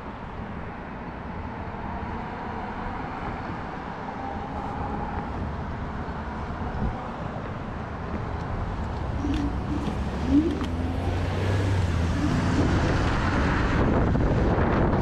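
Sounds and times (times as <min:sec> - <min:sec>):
road noise: 0:00.0 - 0:15.0
wind rushing over microphone: 0:02.5 - 0:15.0.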